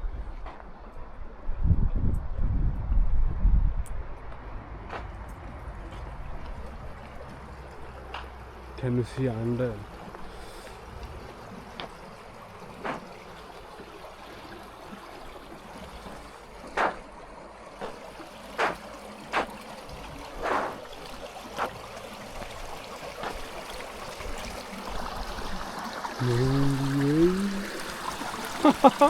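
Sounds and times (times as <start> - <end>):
water trickling under ice: 5.2 - 29.0.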